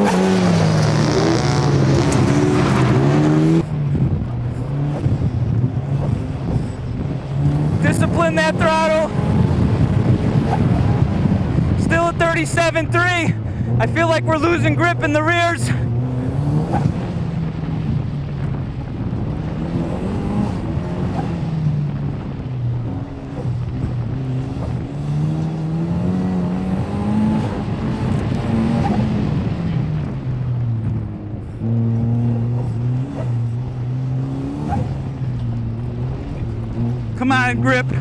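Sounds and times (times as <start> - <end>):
turbocharged car engine revving: 0.0 - 38.0.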